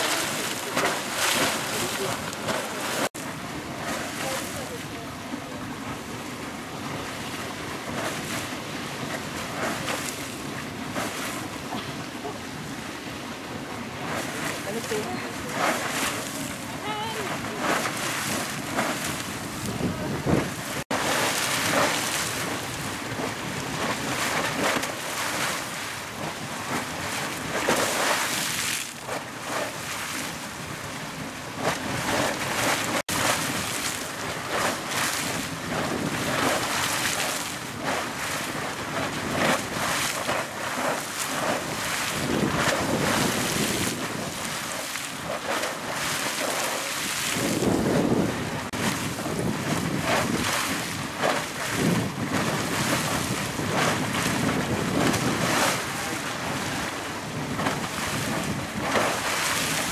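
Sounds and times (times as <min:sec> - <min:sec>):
geyser water bursting and splashing: 0:00.0 - 0:59.9.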